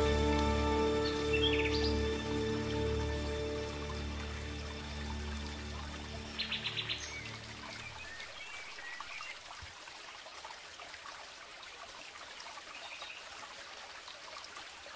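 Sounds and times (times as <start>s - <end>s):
stream running: 0.0s - 14.9s.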